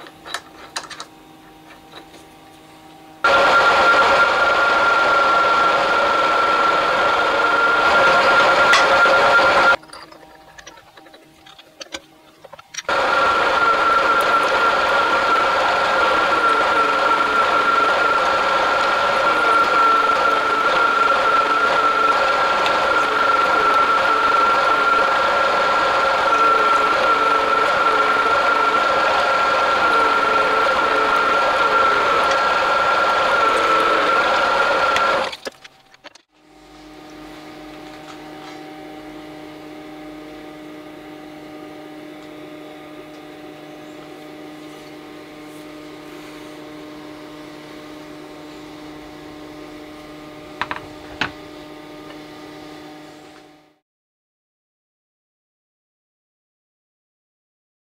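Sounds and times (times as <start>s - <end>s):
milling machine drilling steel: 3.2s - 36.3s, 37.0s - 52.6s.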